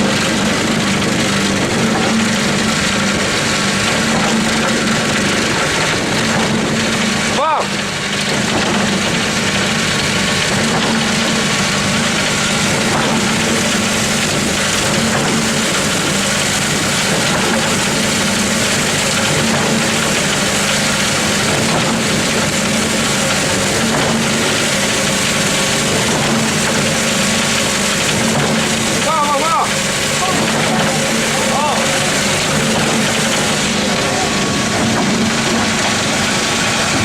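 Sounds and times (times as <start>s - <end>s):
concrete pump running: 0.0s - 37.0s.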